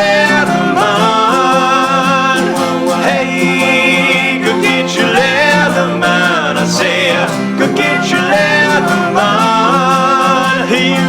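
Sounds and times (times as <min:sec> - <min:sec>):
banjo: 0:00.0 - 0:11.0
country bluegrass song: 0:00.0 - 0:11.0
plucked guitar: 0:00.0 - 0:11.0
sliding melody line: 0:00.0 - 0:11.0.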